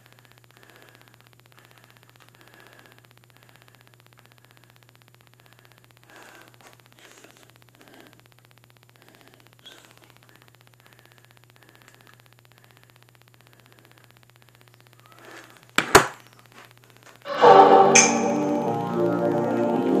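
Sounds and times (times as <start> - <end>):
faint steady hiss: 0.0 - 20.0
low electrical hum: 0.0 - 20.0.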